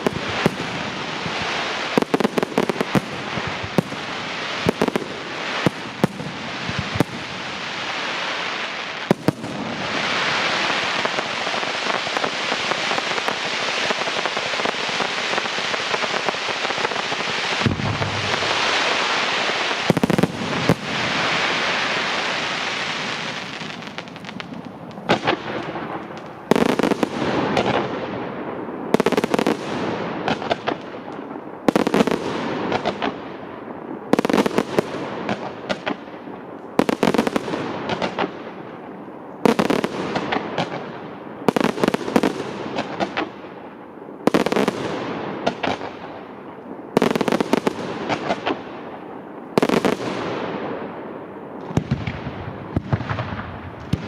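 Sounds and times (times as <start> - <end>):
firework crackles: 0.0 - 54.0.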